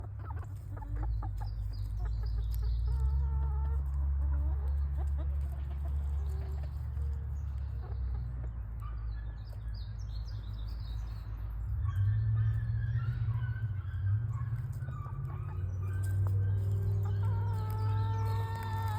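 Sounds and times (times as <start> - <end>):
hens clucking: 0.0 - 18.9.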